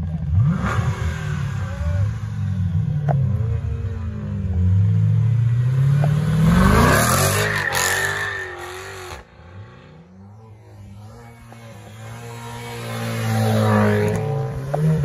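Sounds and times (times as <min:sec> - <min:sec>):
car accelerating hard: 0:00.0 - 0:15.0.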